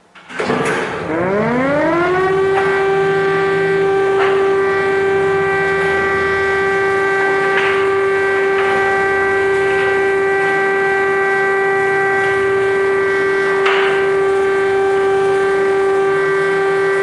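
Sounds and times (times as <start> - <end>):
air-raid siren: 0.9 - 17.0.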